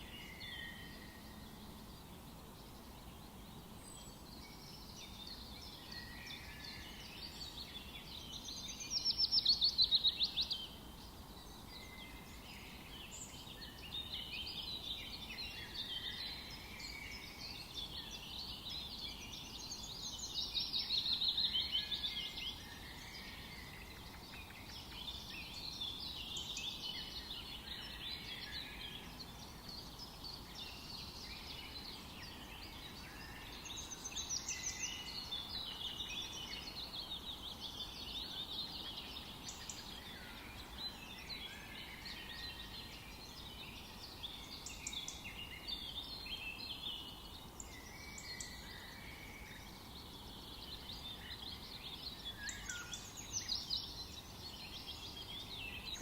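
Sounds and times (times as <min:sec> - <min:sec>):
faint background hiss: 0:00.0 - 0:56.0
songbirds chirping: 0:00.0 - 0:56.0.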